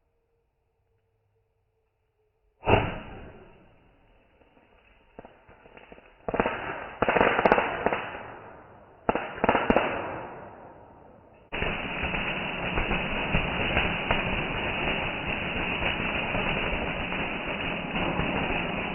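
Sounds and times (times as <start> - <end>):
fireworks bursting and crackling: 2.6 - 18.9.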